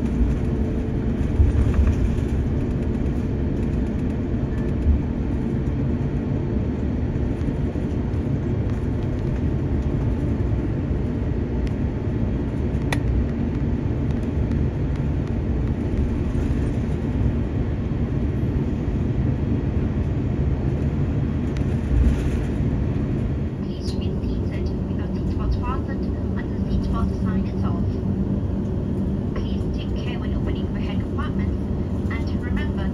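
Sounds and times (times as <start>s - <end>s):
aircraft cabin rumble: 0.0s - 32.9s.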